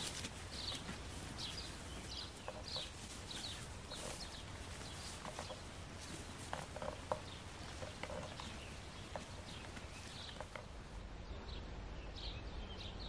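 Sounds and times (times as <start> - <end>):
footsteps rustling through dry grass: 0.0 - 10.6
small birds chirping: 0.0 - 13.0.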